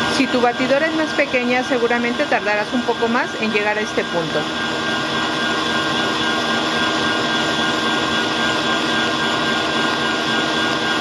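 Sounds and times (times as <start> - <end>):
stand mixer whisking: 0.0 - 11.0.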